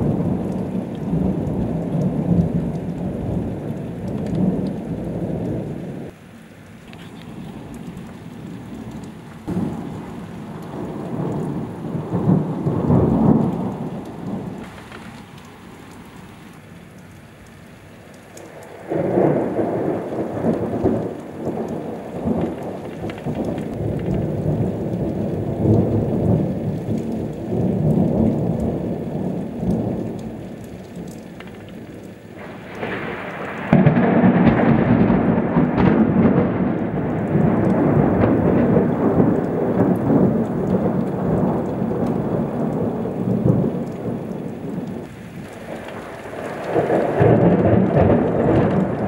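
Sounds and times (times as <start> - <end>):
thunder rumbling: 0.0 - 6.2, 7.1 - 16.6, 18.4 - 49.0
steady rain: 0.0 - 49.0.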